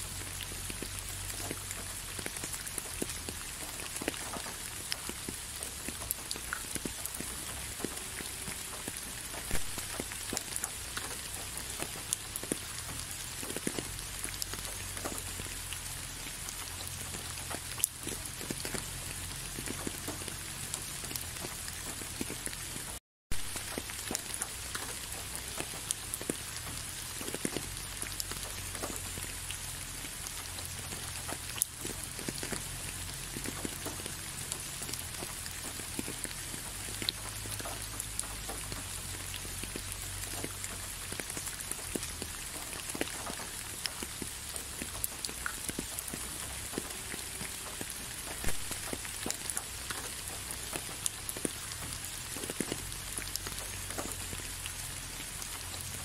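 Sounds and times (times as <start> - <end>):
raindrops ticking: 0.0 - 56.0
steady rain: 0.0 - 56.0.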